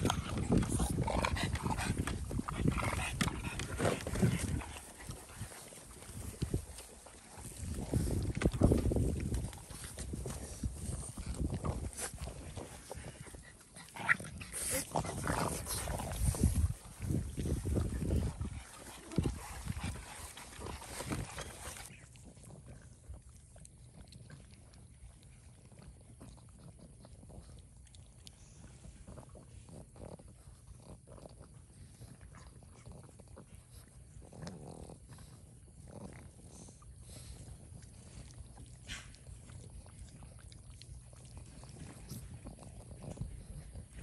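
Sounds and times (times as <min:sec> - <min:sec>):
dog chewing watermelon: 0:00.0 - 0:44.0.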